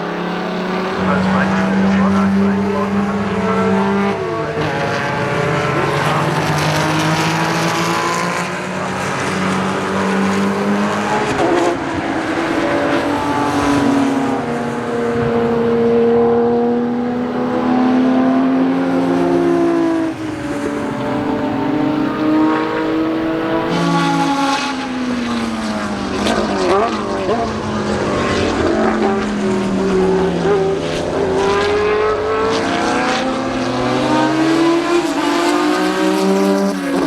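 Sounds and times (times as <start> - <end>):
racing car engines passing: 0.0 - 37.0.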